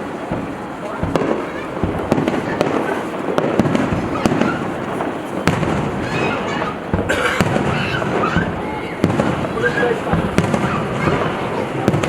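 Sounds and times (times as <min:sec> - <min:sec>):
firework bangs and crackles: 0:00.0 - 0:12.0
rumble of firework shells: 0:00.0 - 0:12.0.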